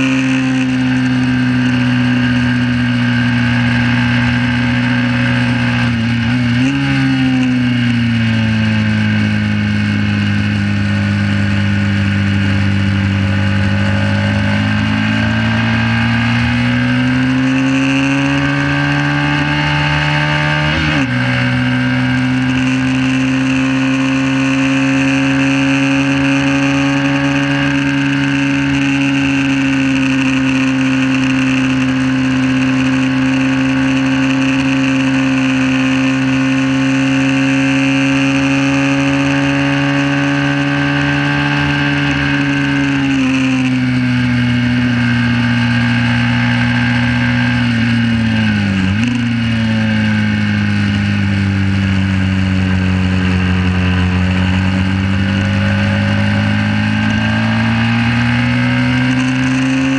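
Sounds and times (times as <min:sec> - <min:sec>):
motorcycle engine running hard: 0:00.0 - 0:59.9.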